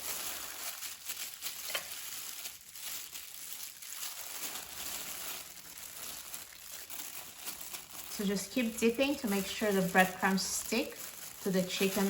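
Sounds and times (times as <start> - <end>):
breadcrumbs crackling and rustling: 0.0 - 12.0.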